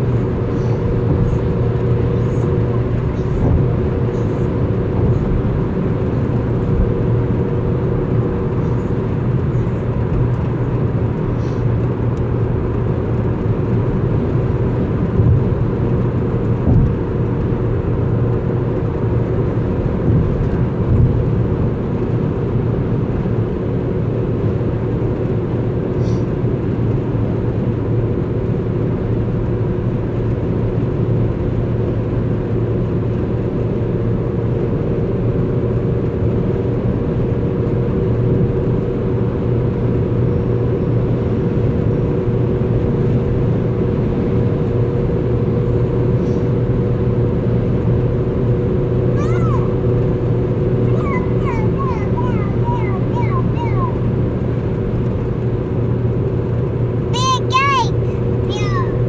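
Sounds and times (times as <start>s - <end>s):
vehicle engine and road drone: 0.0s - 59.0s.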